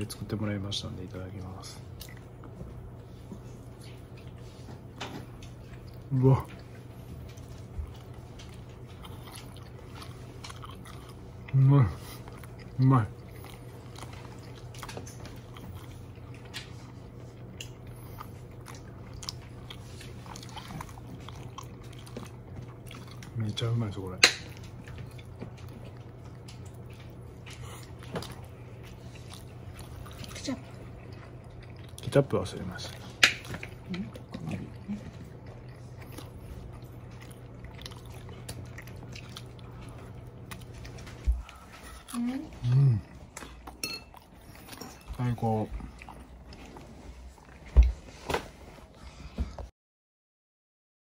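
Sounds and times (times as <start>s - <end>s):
steady low hum: 0.0s - 49.7s
person chewing food: 1.0s - 49.7s.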